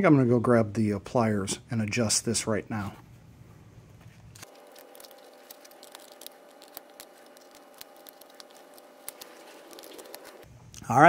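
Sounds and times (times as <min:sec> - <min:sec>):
steady faint hum: 0:01.1 - 0:11.0.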